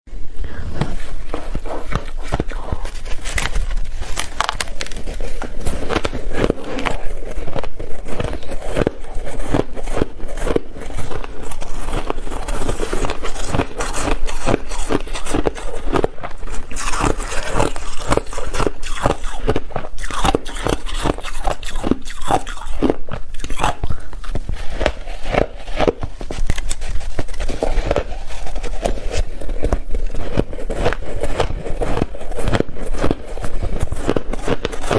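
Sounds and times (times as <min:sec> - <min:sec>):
person chewing ice: 0:00.4 - 0:34.9.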